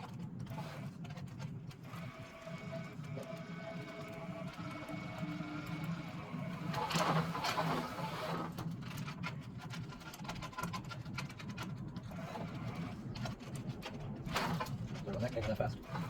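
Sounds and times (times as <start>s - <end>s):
wire and spool clicking and rattling: 0.0s - 6.0s, 6.6s - 16.0s.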